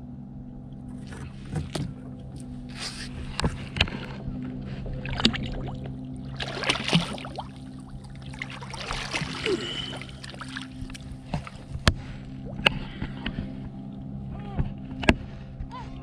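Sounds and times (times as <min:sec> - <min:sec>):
steady low hum: 0:00.0 - 0:16.0
water splashing against kayak: 0:00.7 - 0:14.0.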